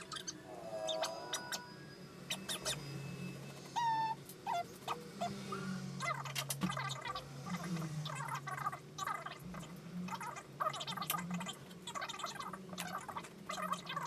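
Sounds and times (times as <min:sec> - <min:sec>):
animal chattering calls: 0:00.0 - 0:02.8, 0:03.6 - 0:14.0
steady low hum: 0:00.0 - 0:14.0.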